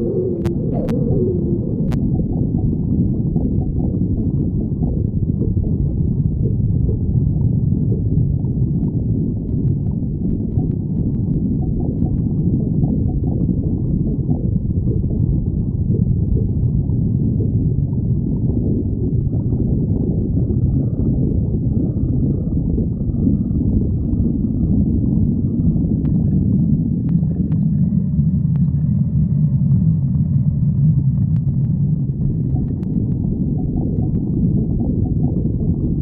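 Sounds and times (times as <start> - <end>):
stomach growling: 0.0 - 36.0.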